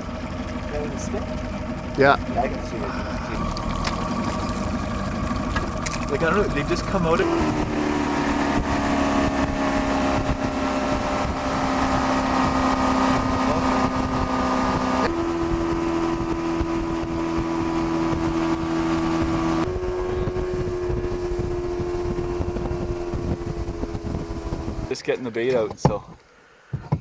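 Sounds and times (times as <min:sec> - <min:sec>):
outboard motor running: 0:00.0 - 0:26.0
wind noise on microphone: 0:03.0 - 0:25.0.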